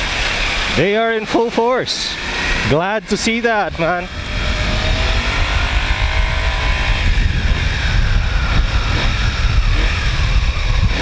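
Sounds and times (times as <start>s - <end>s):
motorcycle engine: 0.0s - 11.0s
road noise: 0.0s - 11.0s
wind buffeting microphone: 1.6s - 11.0s.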